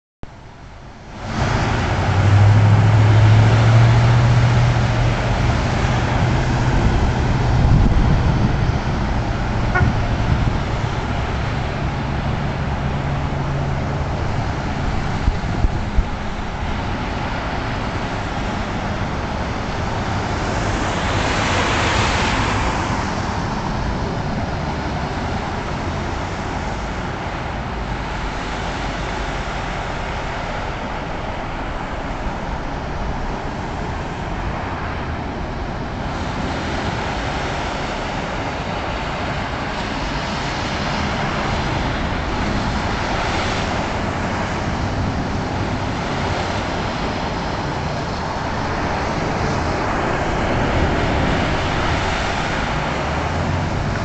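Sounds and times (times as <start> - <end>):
low engine drone: 0.2 - 54.0
tyres splashing through water: 1.1 - 54.0
vehicle passing with spray: 1.2 - 35.1, 36.0 - 54.0.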